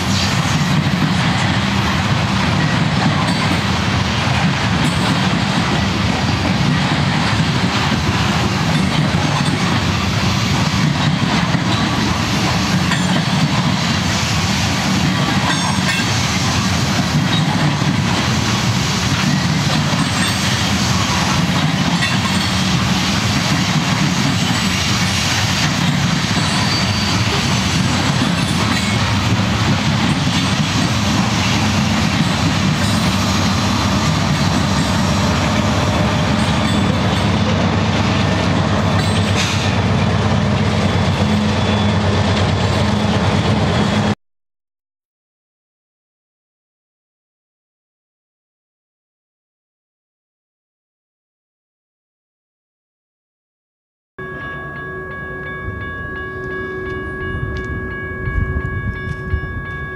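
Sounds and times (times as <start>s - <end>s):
train wheels on rails: 0.0s - 44.2s, 55.4s - 59.9s.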